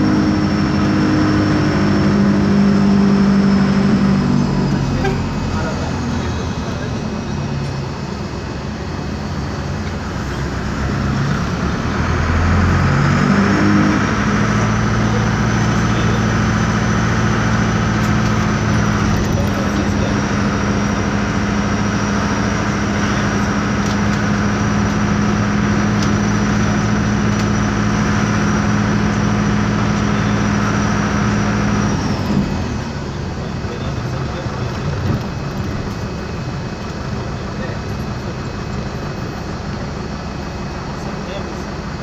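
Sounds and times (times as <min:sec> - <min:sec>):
diesel bus engine droning: 0:00.0 - 0:42.0.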